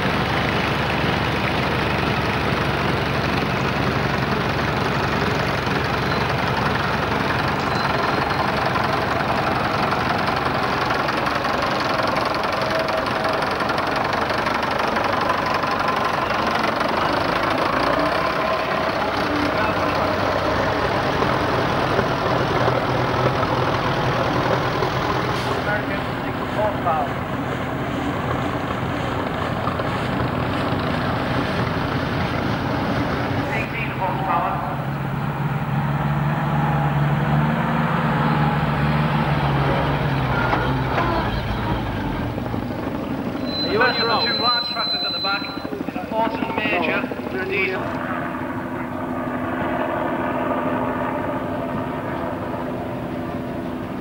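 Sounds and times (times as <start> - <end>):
tractor engines driving past: 0.0 - 54.0.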